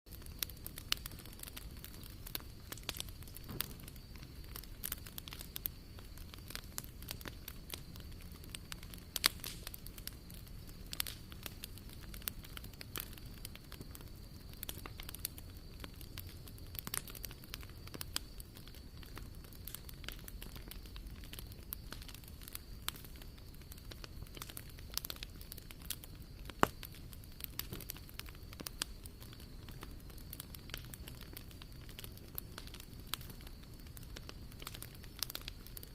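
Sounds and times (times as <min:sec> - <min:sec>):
wood fire crackling: 0:00.1 - 0:35.9.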